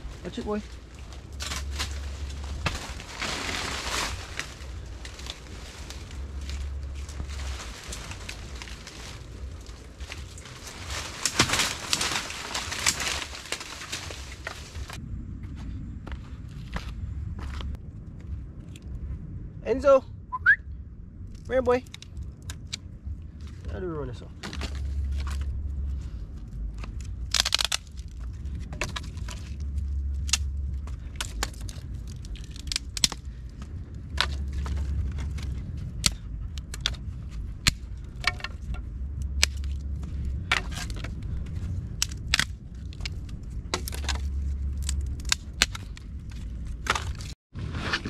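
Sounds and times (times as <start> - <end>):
dry branches snapping: 0.0 - 15.0, 21.3 - 23.7, 24.4 - 47.4
twigs rattling: 0.0 - 15.0, 21.3 - 47.4.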